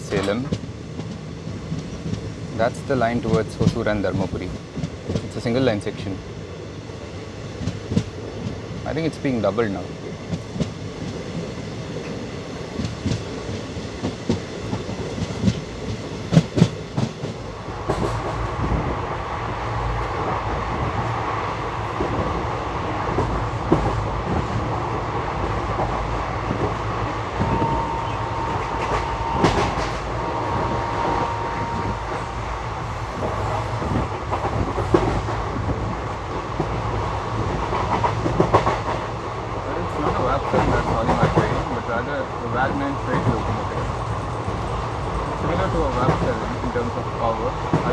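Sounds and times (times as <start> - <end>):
train rushing rumble: 0.0 - 47.9
train wheels clicking over rail joints: 7.6 - 19.2, 20.0 - 47.9.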